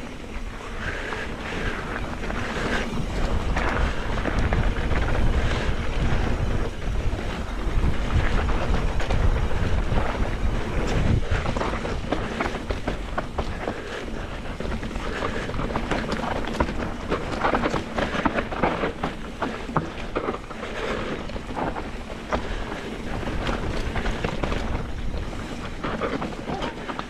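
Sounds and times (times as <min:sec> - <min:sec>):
bike clicks and rattles: 0:00.0 - 0:27.0
bike tyres rolling over dirt: 0:00.0 - 0:27.0
wind buffeting microphone: 0:00.0 - 0:27.0.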